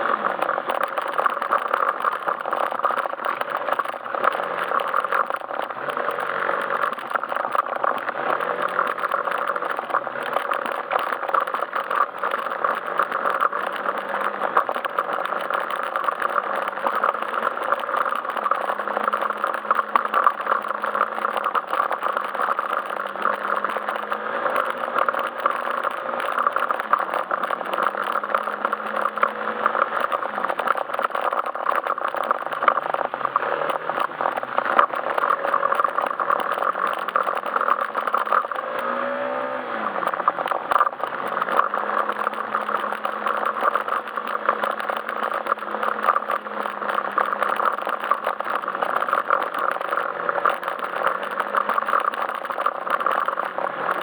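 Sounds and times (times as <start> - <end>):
road and wind noise: 0.0 - 54.0
scooter engine running: 0.0 - 54.0.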